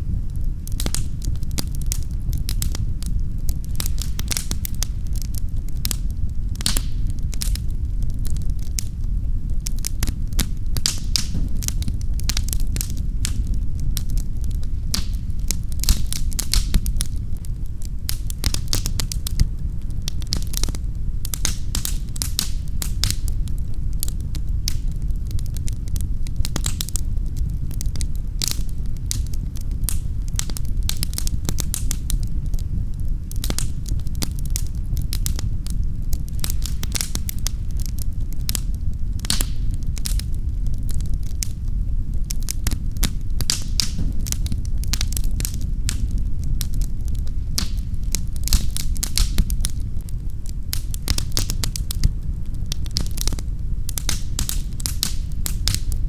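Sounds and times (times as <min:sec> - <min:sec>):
steady low rumble: 0:00.0 - 0:56.0
wood fire crackling: 0:00.0 - 0:56.0.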